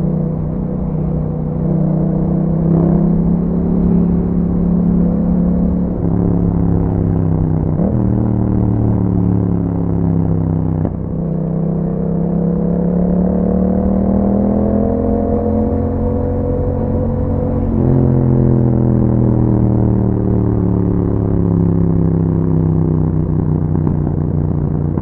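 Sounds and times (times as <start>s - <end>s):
motorcycle exhaust note: 0.0s - 25.0s.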